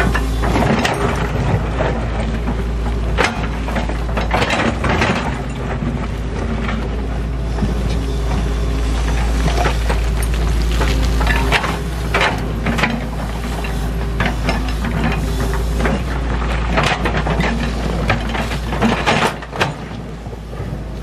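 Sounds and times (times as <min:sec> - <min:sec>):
excavator diesel engine under load: 0:00.0 - 0:21.0.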